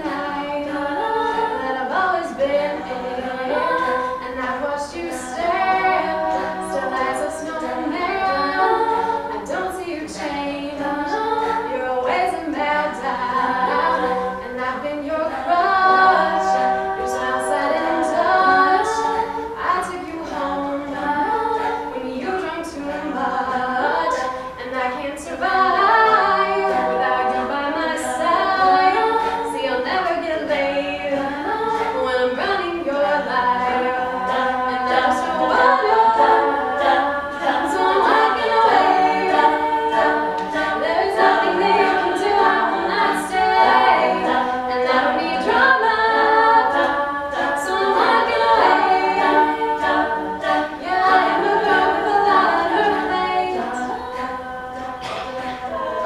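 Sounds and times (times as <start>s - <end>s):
vocal backing harmonies: 0.0s - 56.0s
woman singing lead: 0.0s - 56.0s.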